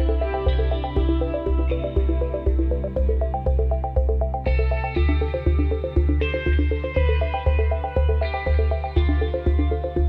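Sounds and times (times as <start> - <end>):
instrumental music with low beat: 0.0 - 10.0.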